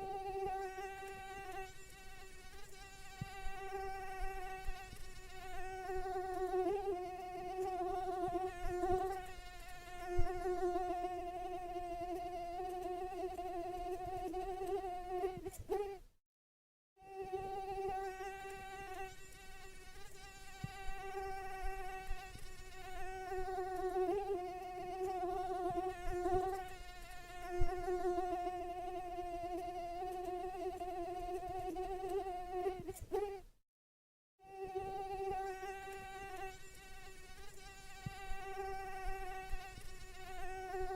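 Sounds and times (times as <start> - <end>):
mosquito buzzing whine: 0.0 - 16.0, 17.0 - 33.5, 34.4 - 40.9.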